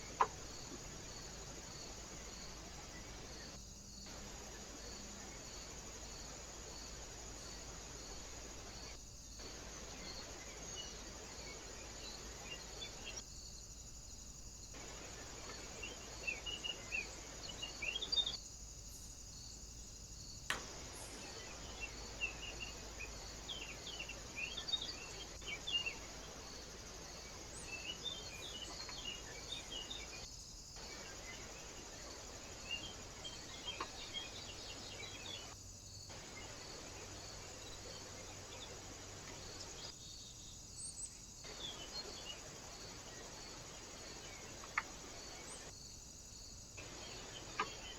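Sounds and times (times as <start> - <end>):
high insect drone: 0.0 - 47.9
small birds chirping: 0.0 - 47.9.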